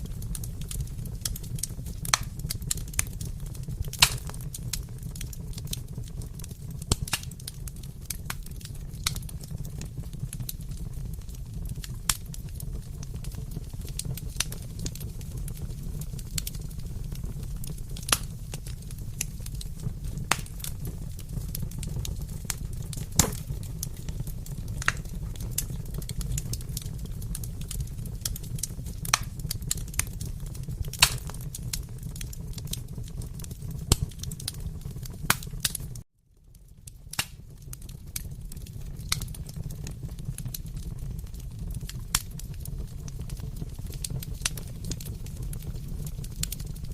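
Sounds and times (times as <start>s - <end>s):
fireplace crackling: 0.0s - 46.9s.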